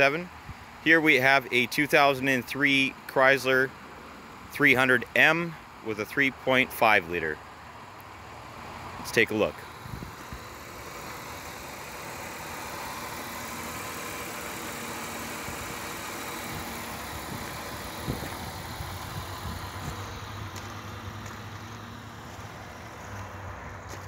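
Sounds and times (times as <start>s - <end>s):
car engine idling: 0.1s - 24.0s.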